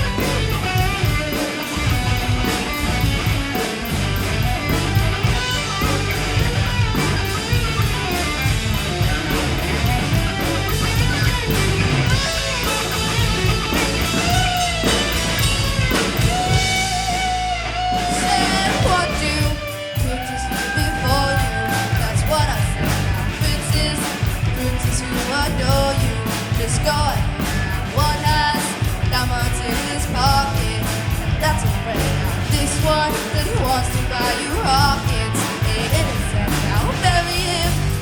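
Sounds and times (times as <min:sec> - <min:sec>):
bass guitar: 0:00.0 - 0:38.0
drum beat: 0:00.0 - 0:38.0
electric guitar: 0:00.0 - 0:38.0.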